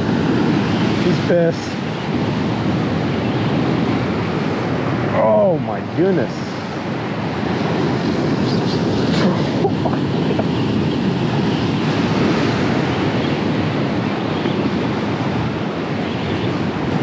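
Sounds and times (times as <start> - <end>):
surf washing onto shore: 0.0 - 17.0
wind buffeting microphone: 0.0 - 17.0.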